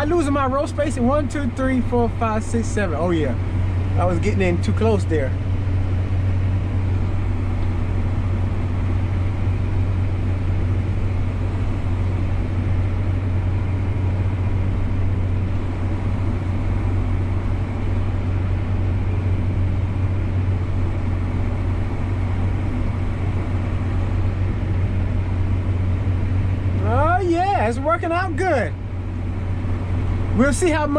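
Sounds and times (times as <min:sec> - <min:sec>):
tractor engine droning: 0:00.0 - 0:30.9.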